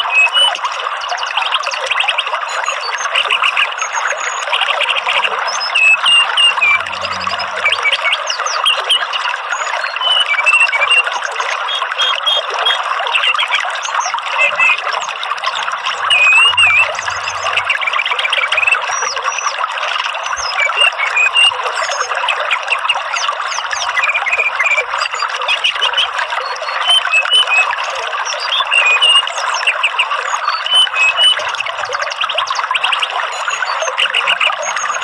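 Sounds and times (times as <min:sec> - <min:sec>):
thrush whistled song: 0:00.0 - 0:00.6, 0:01.9 - 0:19.6, 0:20.2 - 0:35.0
running water: 0:00.0 - 0:35.0.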